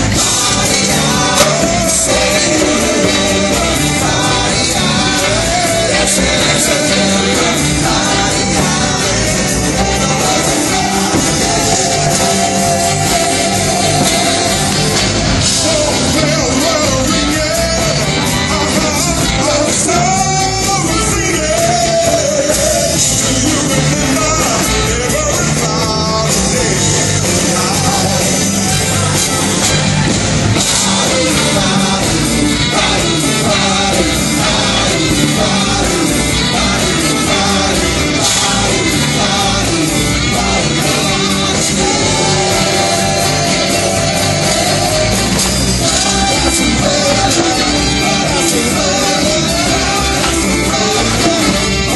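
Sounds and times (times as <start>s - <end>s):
live rock band playing: 0.0s - 51.9s
person singing: 0.0s - 51.9s.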